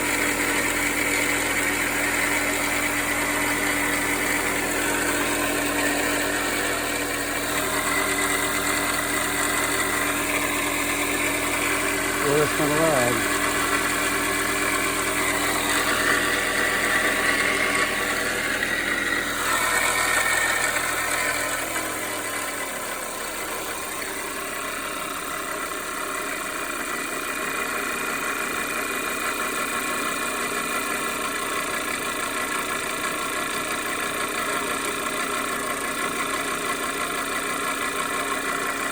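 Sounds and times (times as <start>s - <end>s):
car engine idling: 0.0s - 38.9s
engine clanking and rattling: 0.0s - 38.9s.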